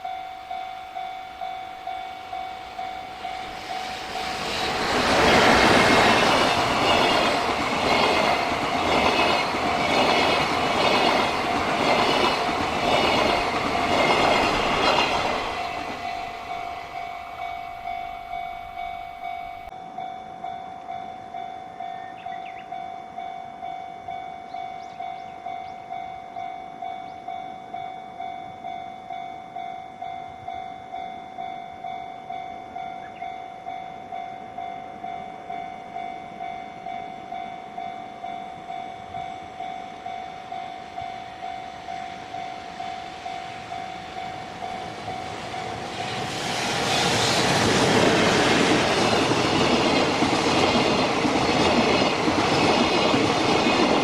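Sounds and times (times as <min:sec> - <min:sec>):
level-crossing warning bell: 0:00.0 - 0:46.7, 0:47.4 - 0:54.0
freight train rolling past: 0:00.0 - 0:54.0.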